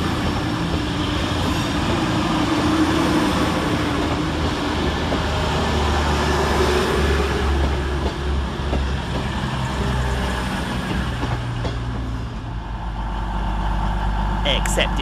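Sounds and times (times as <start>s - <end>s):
train engines droning: 0.0s - 15.0s.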